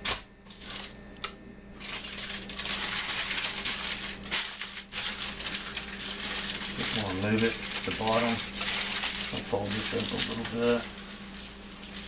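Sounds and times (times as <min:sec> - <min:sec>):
aluminium foil crinkling: 0:00.4 - 0:12.0.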